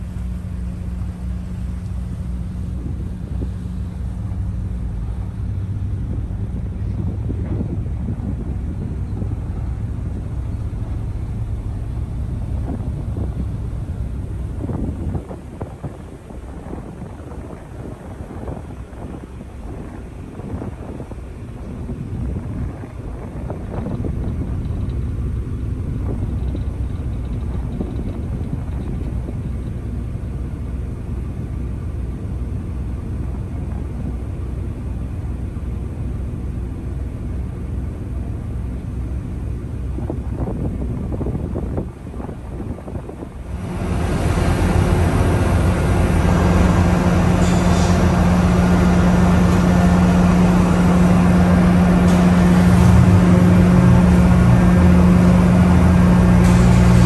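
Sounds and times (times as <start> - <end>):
engine hum echoing on deck: 0.0 - 57.0
ship engines rumbling: 0.0 - 57.0.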